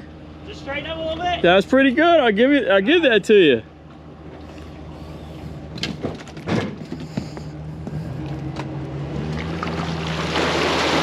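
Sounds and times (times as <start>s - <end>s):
engine idling: 0.0s - 9.0s.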